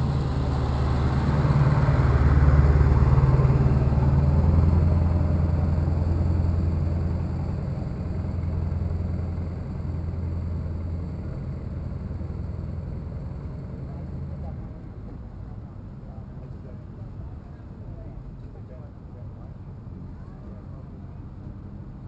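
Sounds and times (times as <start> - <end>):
dump truck engine rumbling: 0.0 - 22.0.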